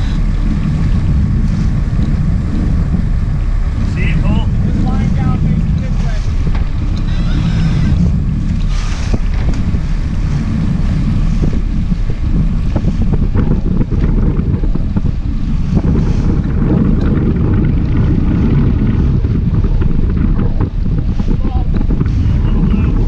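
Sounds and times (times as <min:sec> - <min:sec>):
boat engine: 0:00.0 - 0:23.0
water washing along hull: 0:00.0 - 0:23.0
wind rumbling on microphone: 0:00.0 - 0:23.0.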